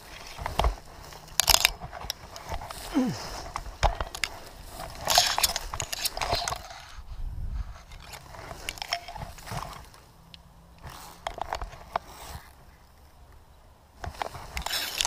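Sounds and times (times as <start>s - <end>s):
dry grass rustling and crackling: 0.0s - 15.0s.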